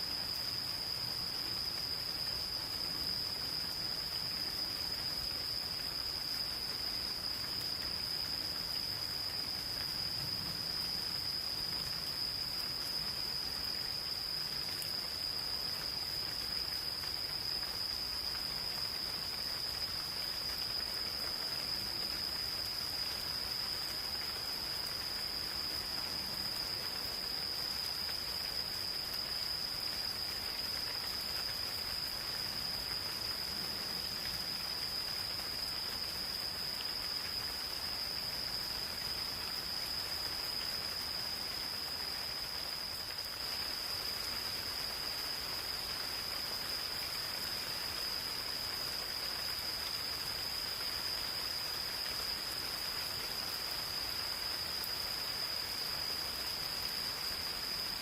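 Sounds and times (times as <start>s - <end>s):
gentle rain pattering: 0.0s - 58.0s.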